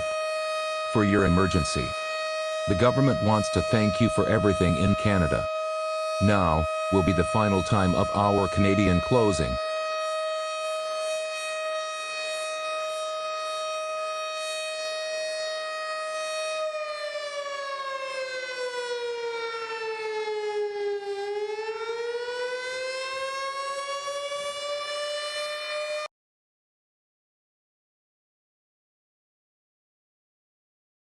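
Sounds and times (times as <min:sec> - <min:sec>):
civil defense siren wailing: 0:00.0 - 0:26.1.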